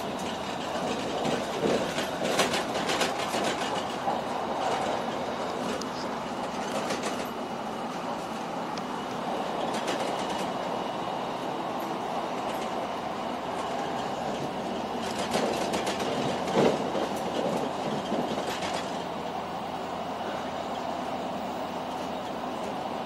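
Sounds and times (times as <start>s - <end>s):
wheels clattering over track joints: 0.0s - 10.9s, 11.8s - 19.9s
train wheels rumbling on rail: 0.0s - 23.0s.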